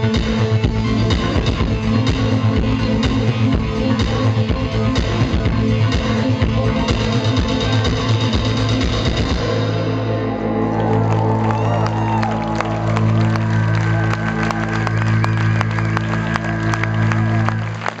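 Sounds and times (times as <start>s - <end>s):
drums: 0.0s - 18.0s
low bass and synth chord: 0.0s - 18.0s.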